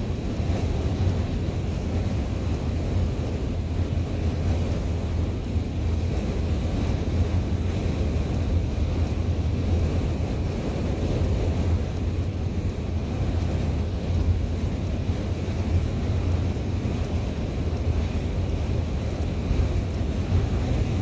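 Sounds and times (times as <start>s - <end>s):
road noise: 0.0s - 21.0s
vehicle driving rumble: 0.0s - 21.0s
wind buffeting: 0.0s - 21.0s.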